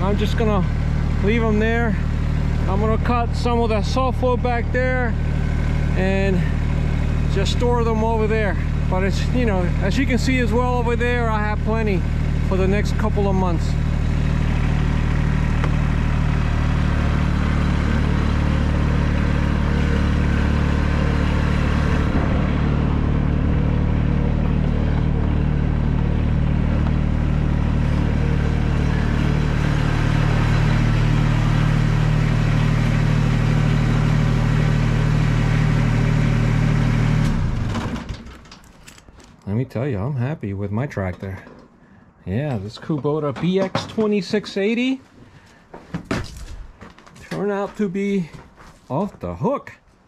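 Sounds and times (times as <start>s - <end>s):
tractor diesel engine running: 0.0s - 45.8s.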